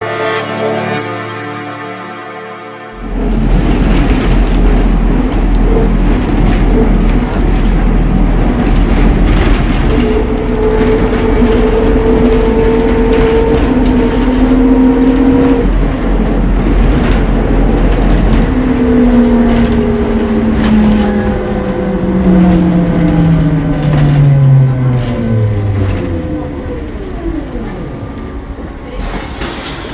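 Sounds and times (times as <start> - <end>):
trolleybus hum and road rumble: 3.0 - 29.9.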